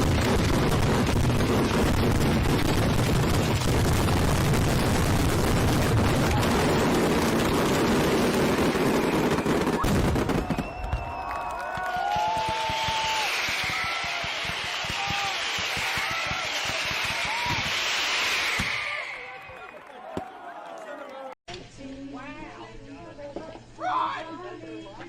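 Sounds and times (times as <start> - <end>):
fireworks bangs and crackles: 0.0 - 20.3.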